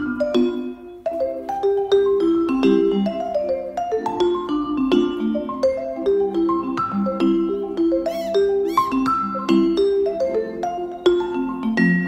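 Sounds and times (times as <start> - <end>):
vibraphone melody: 0.0 - 12.0.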